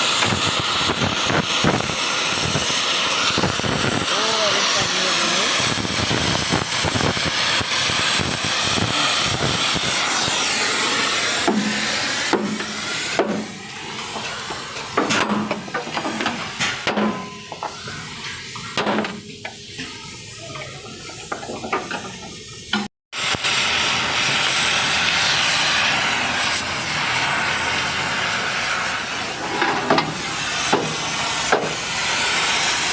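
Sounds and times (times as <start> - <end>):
loud hiss: 0.0 - 32.9.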